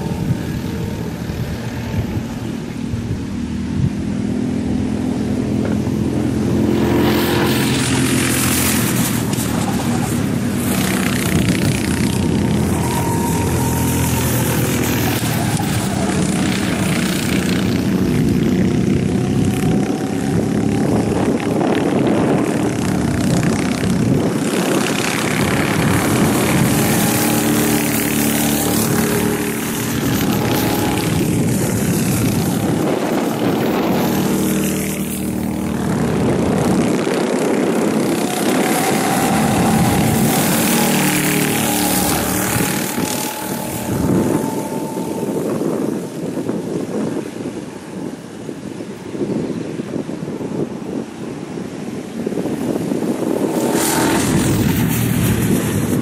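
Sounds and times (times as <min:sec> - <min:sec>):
go-kart engines passing: 0:00.0 - 0:56.0.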